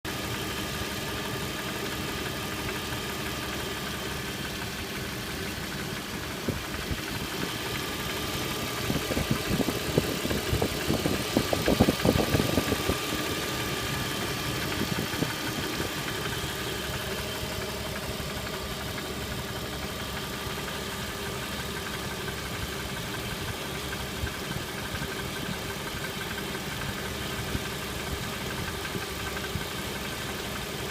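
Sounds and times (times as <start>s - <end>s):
car engine idling with knock: 0.1s - 30.9s.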